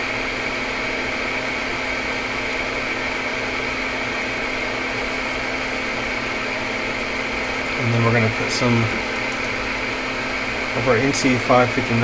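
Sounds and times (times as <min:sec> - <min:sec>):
extractor fan humming: 0:00.0 - 0:12.0.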